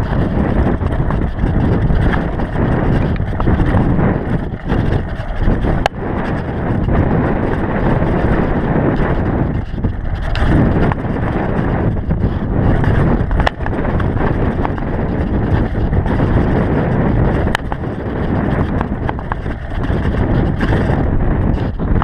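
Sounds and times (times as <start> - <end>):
mountain bike rumbling and rattling: 0.0 - 22.0
sharp clacks: 0.0 - 22.0
wind buffeting microphone: 0.0 - 22.0.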